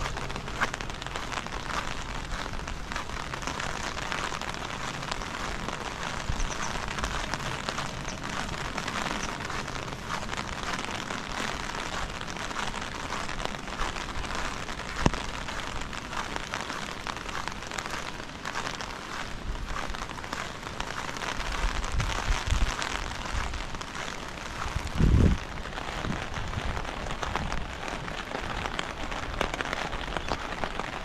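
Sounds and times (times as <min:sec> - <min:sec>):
heavy rain on hard surfaces: 0:00.0 - 0:31.0.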